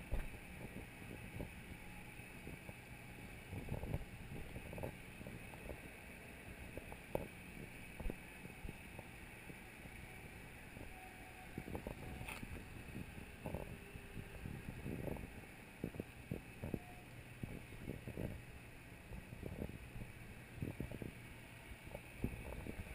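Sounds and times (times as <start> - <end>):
wind rumbling on microphone: 0.0 - 22.9.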